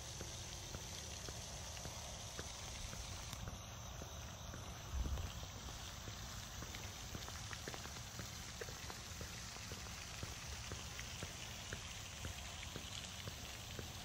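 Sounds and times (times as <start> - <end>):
footsteps ticking: 0.0 - 14.0.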